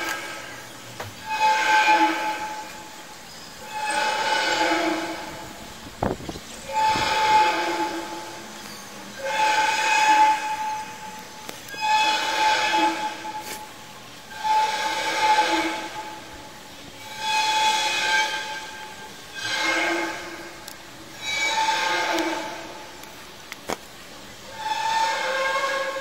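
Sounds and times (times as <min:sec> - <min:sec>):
loud horn-like blasts: 0:00.0 - 0:03.0, 0:03.6 - 0:05.7, 0:06.7 - 0:08.4, 0:09.2 - 0:13.7, 0:14.3 - 0:16.3, 0:17.0 - 0:23.0, 0:24.5 - 0:26.0.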